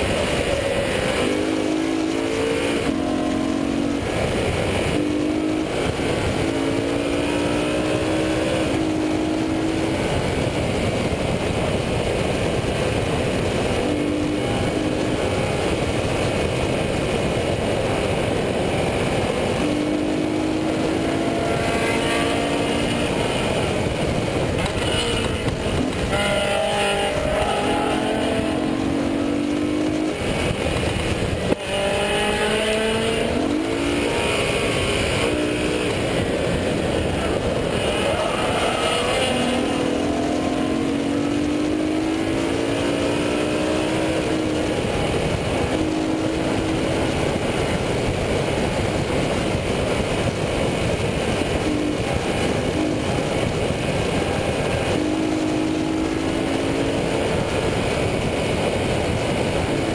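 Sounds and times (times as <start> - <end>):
car engine accelerating hard: 0.0 - 59.9
wind and tyre noise: 0.0 - 59.9.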